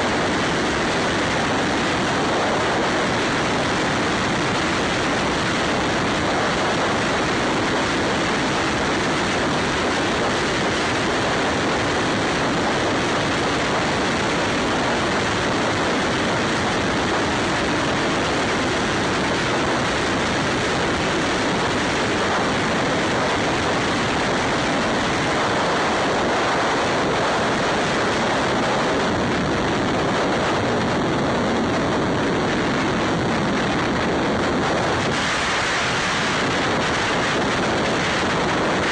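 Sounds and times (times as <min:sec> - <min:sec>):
motorcycle noise: 0:00.0 - 0:38.9
wind rush over microphone: 0:00.0 - 0:38.9.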